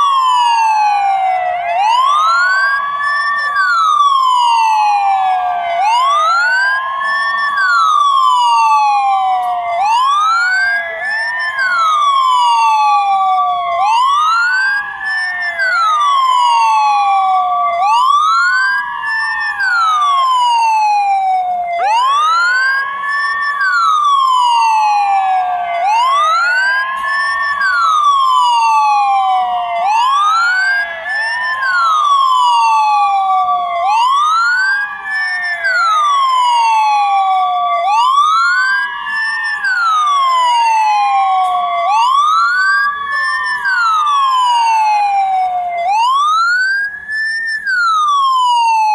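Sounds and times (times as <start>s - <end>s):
ambulance siren wailing: 0.0s - 48.9s
second siren tone: 0.0s - 48.9s.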